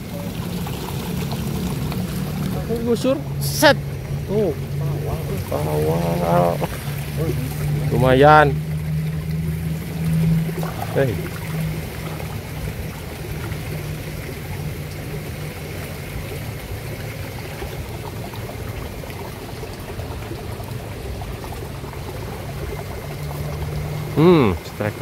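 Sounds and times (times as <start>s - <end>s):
low hum: 0.0s - 24.4s
running water: 0.0s - 25.0s.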